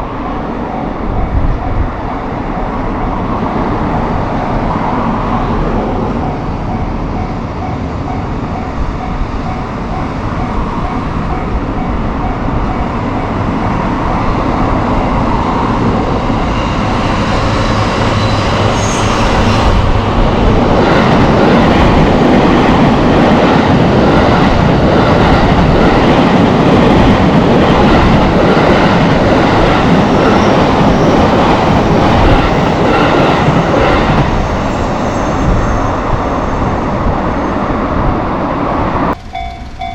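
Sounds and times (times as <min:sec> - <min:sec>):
crossing warning bell: 0:00.0 - 0:05.2, 0:06.0 - 0:37.7, 0:39.1 - 0:39.9
electric train passing: 0:00.0 - 0:39.9.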